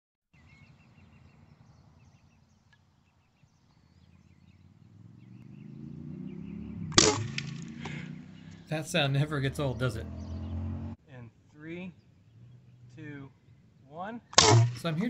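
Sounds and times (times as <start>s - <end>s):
distant birds chirping: 0.4s - 15.0s.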